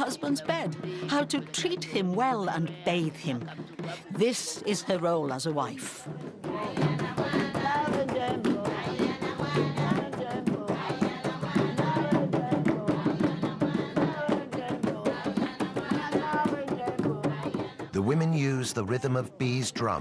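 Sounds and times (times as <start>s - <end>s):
women singing together: 0.0s - 18.0s
hand-drum rhythm: 0.0s - 20.0s.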